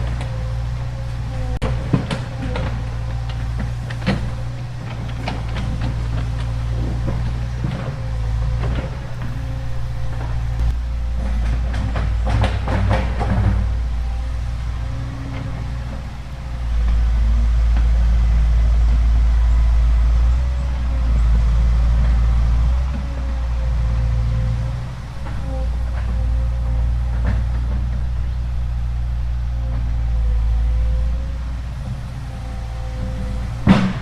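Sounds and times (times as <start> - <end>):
excavator diesel engine: 0.0 - 34.0.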